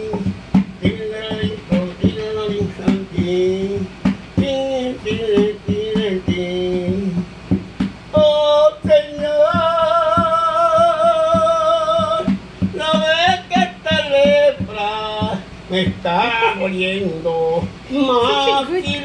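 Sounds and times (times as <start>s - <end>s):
man singing into a bucket: 0.0s - 19.0s
soft knocking beat: 0.0s - 19.0s.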